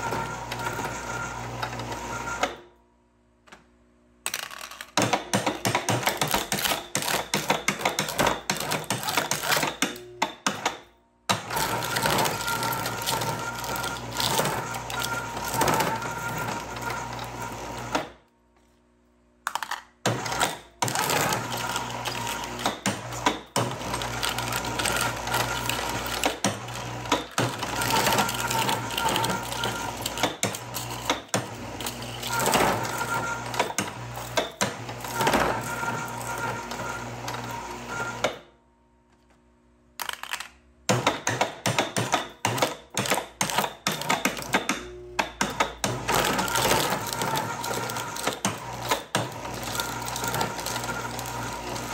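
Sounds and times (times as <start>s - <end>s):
shredder crunching cans: 0.0s - 2.5s, 4.3s - 10.7s, 11.3s - 18.1s, 19.5s - 38.4s, 40.0s - 51.9s.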